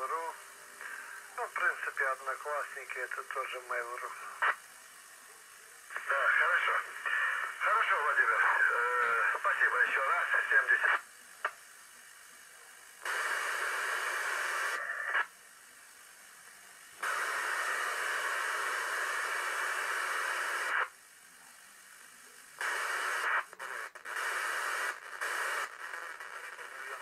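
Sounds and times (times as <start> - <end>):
loud radio static bursts: 0.0 - 4.8, 5.8 - 11.6, 12.9 - 15.4, 17.0 - 27.0
radio receiver hiss: 0.0 - 27.0.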